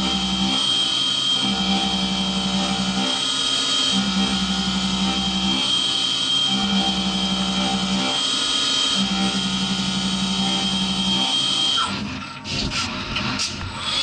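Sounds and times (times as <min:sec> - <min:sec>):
milling machine spindle whine: 0:00.0 - 0:12.4
low cutting hum: 0:00.0 - 0:14.0.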